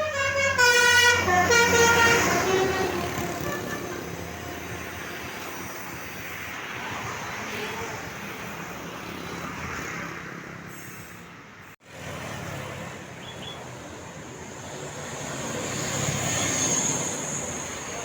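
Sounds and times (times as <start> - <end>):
roadside traffic noise: 0.0 - 18.0.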